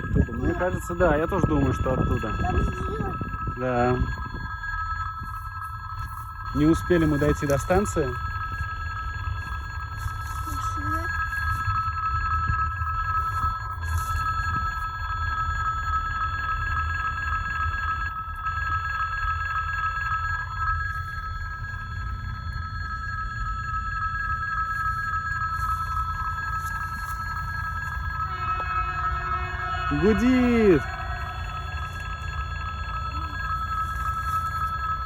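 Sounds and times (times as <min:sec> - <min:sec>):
level crossing signal ringing: 0:00.0 - 0:35.0
low rumble: 0:00.0 - 0:35.0.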